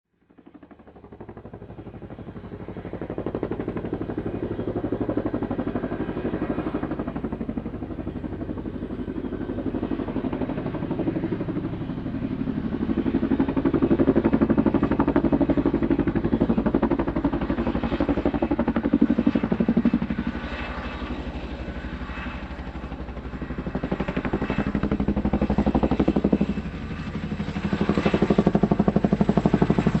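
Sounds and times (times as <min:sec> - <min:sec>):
helicopter rotor chopping: 0:00.2 - 0:30.0.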